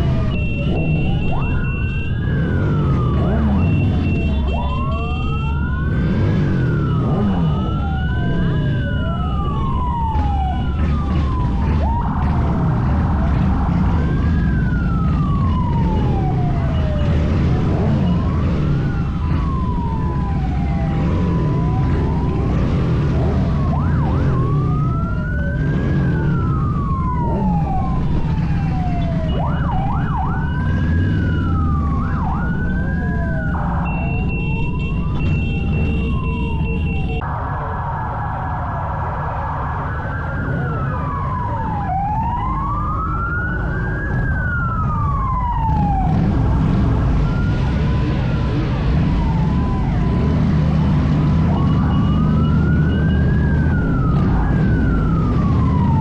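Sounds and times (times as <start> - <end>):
emergency vehicle sirens wailing: 0.0 - 56.0
vehicle engines rumbling: 0.0 - 56.0.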